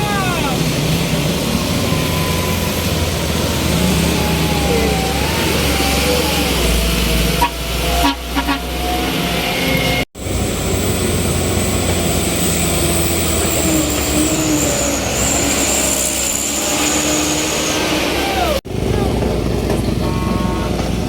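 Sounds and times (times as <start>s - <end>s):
traffic engines: 0.0s - 21.0s.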